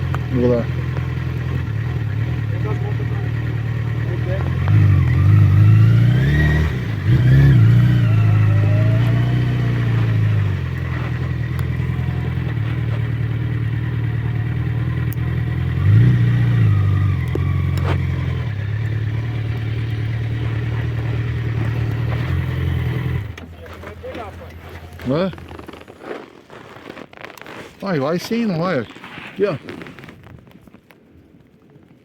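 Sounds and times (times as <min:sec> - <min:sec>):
motorcycle engine idling and revving: 0:00.0 - 0:28.7.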